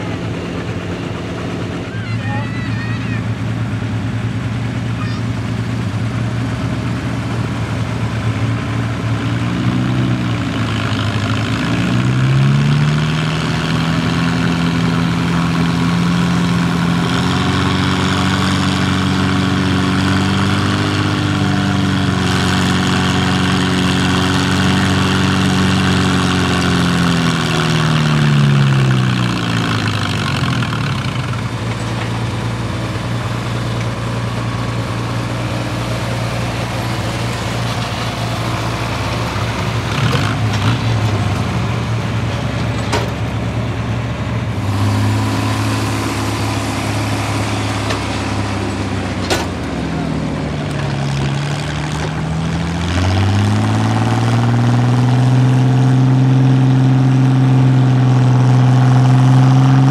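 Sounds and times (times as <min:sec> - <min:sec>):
tractor engine revving under load: 0:00.0 - 0:59.9.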